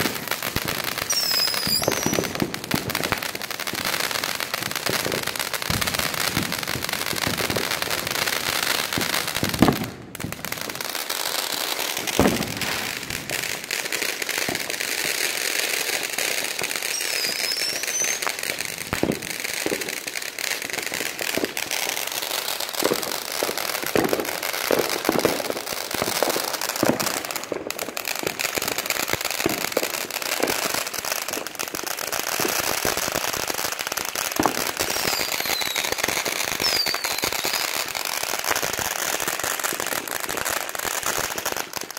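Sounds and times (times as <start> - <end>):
crackling hiss of fountain fireworks: 0.0 - 41.9
firecrackers popping and banging: 0.0 - 41.9.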